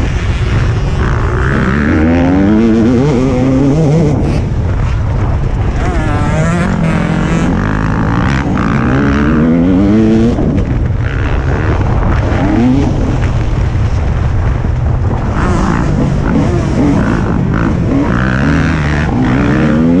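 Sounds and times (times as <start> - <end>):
two-stroke motorbike engine revving: 0.0 - 4.6, 5.3 - 13.5, 15.2 - 20.0
wind noise: 0.0 - 20.0.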